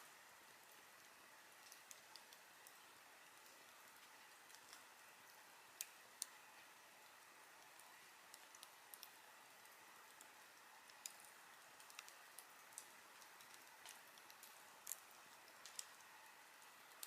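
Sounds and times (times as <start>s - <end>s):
faint steady hiss: 0.0s - 17.0s
campfire crackling: 0.3s - 17.0s.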